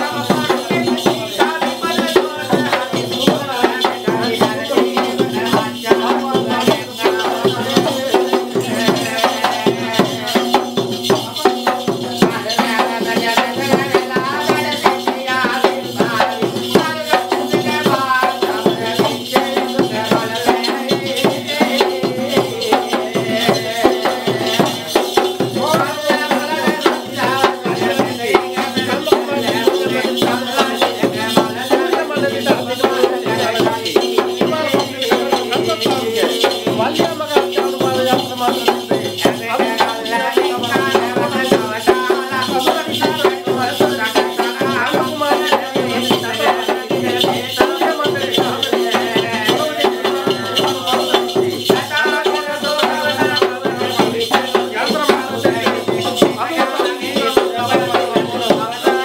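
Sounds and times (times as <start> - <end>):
barrel drum beaten by hand: 0.0 - 59.0
shaken rattle: 0.0 - 59.0.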